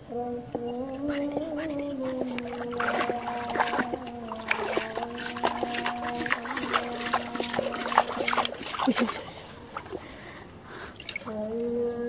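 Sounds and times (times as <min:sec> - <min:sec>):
steady droning hum: 0:00.0 - 0:12.0
water splashing and sloshing: 0:00.8 - 0:11.6.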